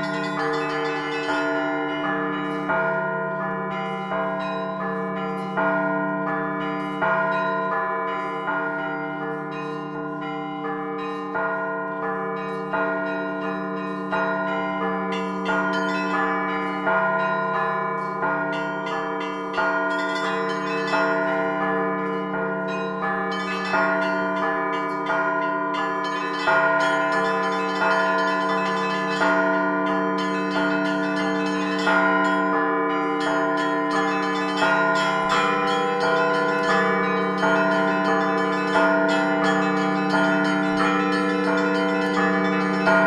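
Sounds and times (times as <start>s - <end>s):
church bells ringing: 0.0s - 43.0s.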